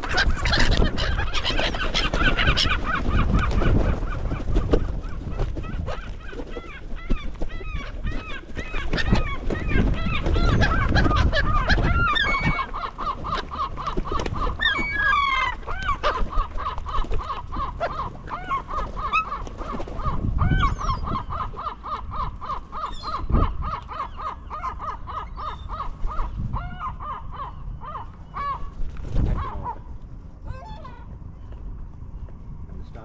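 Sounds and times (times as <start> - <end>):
gulls squawking: 0.0 - 31.6.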